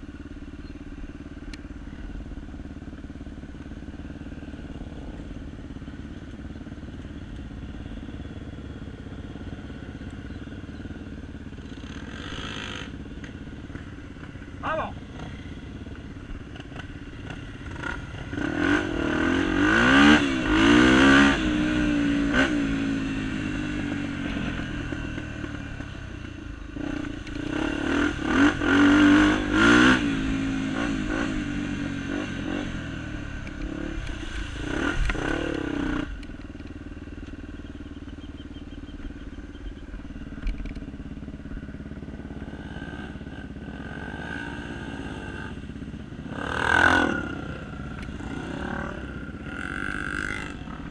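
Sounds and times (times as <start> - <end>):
motorcycles revving: 0.0 - 50.9.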